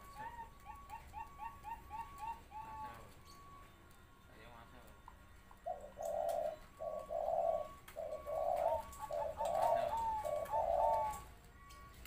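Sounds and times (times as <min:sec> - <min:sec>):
dove cooing: 0:00.0 - 0:03.6, 0:05.5 - 0:11.9.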